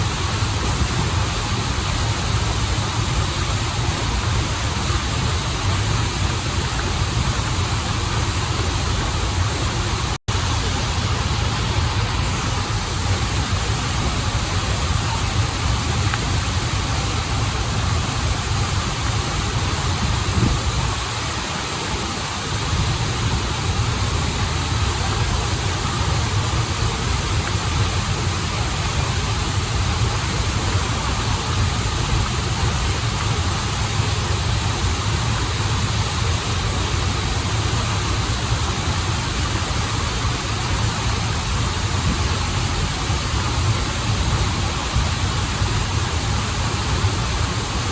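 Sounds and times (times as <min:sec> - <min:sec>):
waterfall and flowing stream: 0:00.0 - 0:47.9.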